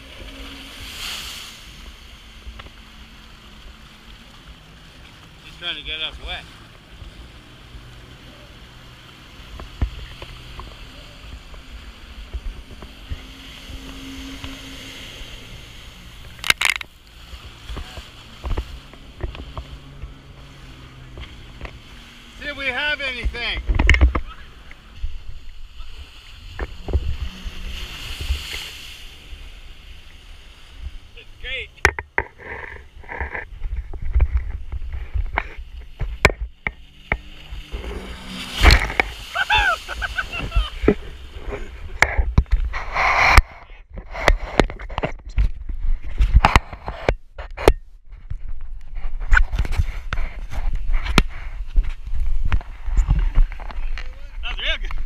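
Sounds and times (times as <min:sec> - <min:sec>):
jet ski engine hum: 0:00.0 - 0:55.0
water slapping hull: 0:00.0 - 0:55.0
wind and water rumble: 0:00.0 - 0:55.0.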